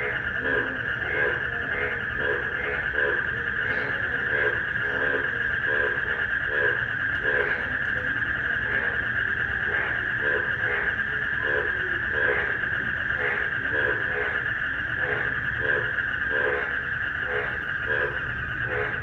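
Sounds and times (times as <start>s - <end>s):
crickets trilling: 0.0s - 19.0s
frogs croaking: 0.0s - 19.0s.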